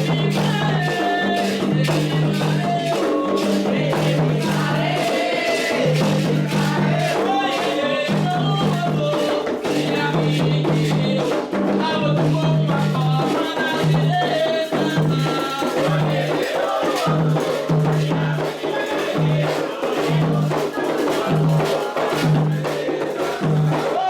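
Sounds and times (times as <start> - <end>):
hand drums beating: 0.0 - 24.0
people singing: 0.0 - 24.0.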